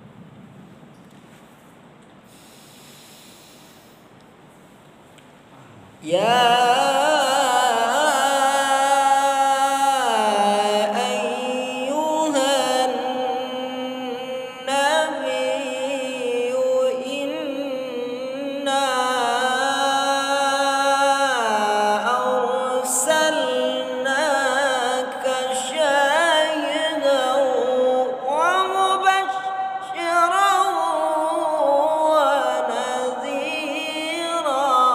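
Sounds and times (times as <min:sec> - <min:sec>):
man reciting in melodic chant: 0:05.9 - 0:34.9.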